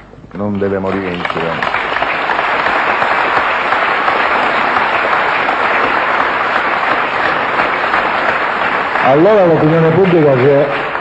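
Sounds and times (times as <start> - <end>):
large audience applauding: 0.4 - 11.0.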